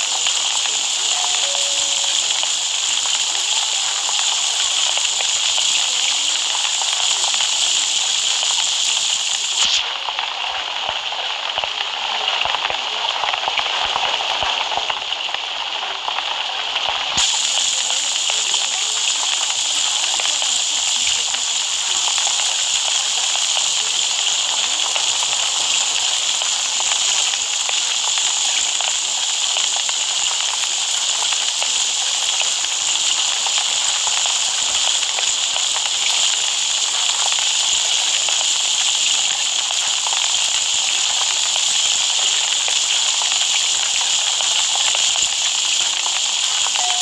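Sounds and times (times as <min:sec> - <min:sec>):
loud crackling hiss: 0:00.0 - 0:47.0.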